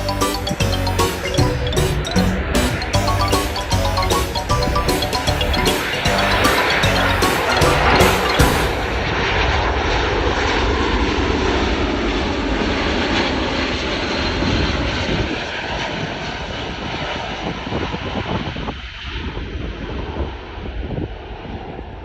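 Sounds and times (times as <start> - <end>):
jet engines passing: 0.0 - 21.8.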